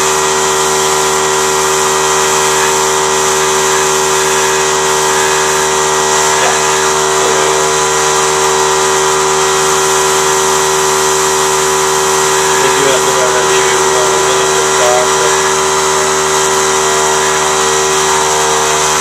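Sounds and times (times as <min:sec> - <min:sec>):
machine motor drone: 0:00.0 - 0:19.0.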